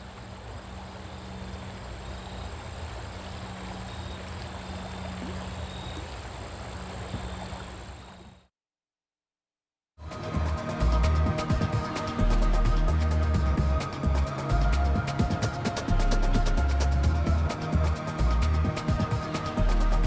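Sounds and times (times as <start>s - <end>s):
river water rushing: 0.0s - 8.3s, 10.0s - 20.0s.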